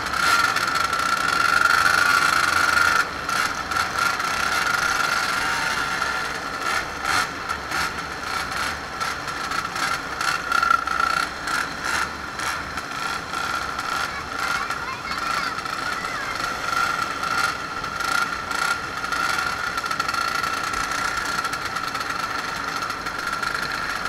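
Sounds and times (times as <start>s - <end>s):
moped engines whining: 0.0s - 24.0s.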